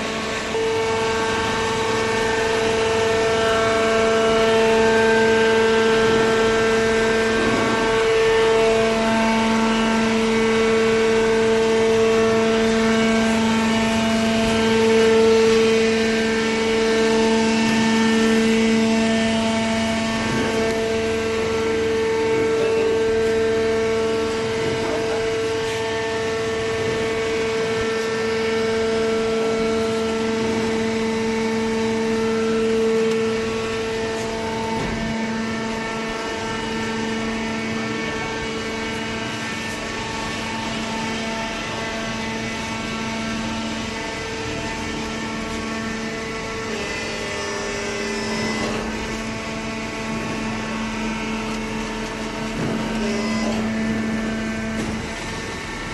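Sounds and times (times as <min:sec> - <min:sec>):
electric motor and pump whine: 0:00.0 - 0:55.9.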